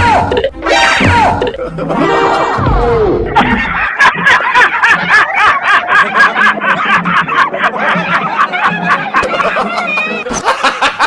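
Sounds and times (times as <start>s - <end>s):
music: 0.0s - 11.0s
rhythmic giggling laughter: 0.1s - 11.0s.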